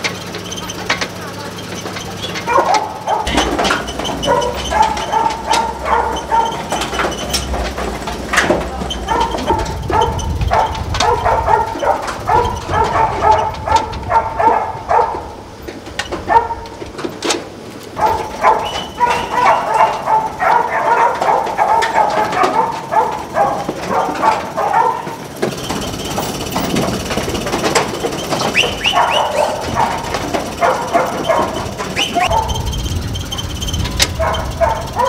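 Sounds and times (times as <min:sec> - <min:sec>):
animals calling: 0:00.0 - 0:17.1, 0:17.9 - 0:35.0
low machine rumble: 0:00.0 - 0:35.0
metal clanks from machine: 0:00.0 - 0:35.0.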